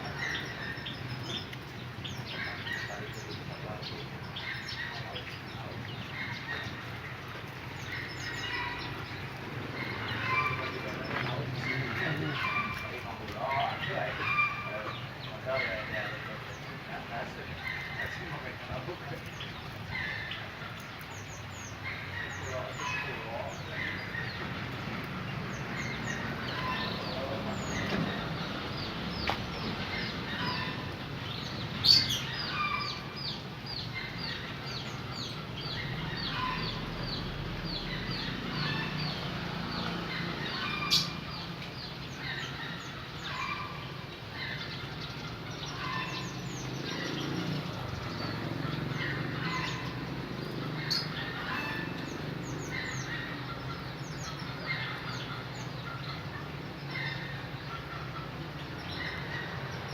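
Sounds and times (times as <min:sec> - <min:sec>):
canaries chirping: 0:00.0 - 0:59.9.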